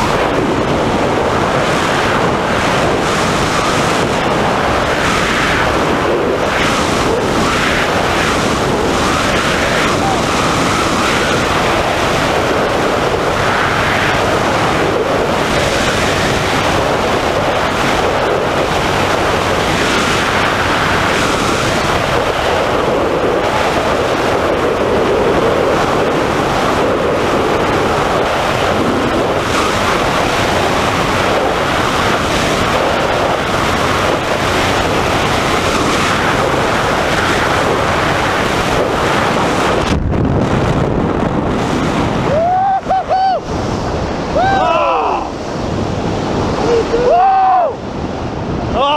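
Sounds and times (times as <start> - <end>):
rush of wind over microphone: 0.0 - 48.9.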